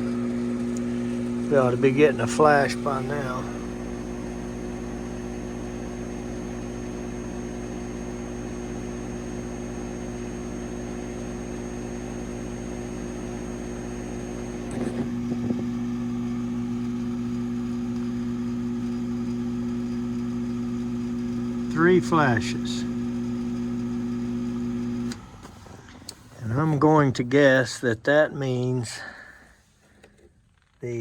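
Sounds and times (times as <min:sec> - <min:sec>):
furnace draft motor humming: 0:00.0 - 0:31.0.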